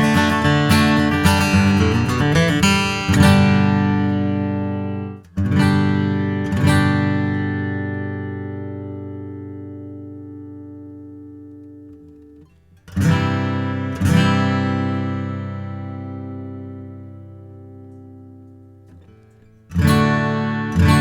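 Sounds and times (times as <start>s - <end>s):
acoustic guitar strummed: 0.0s - 21.0s.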